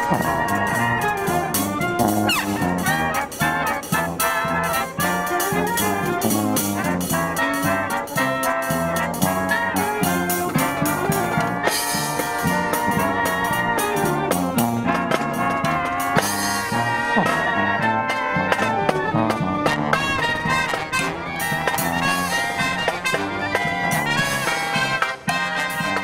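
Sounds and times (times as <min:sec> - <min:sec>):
steady drum beat: 0:00.0 - 0:26.0
trumpets and trombones: 0:00.0 - 0:26.0.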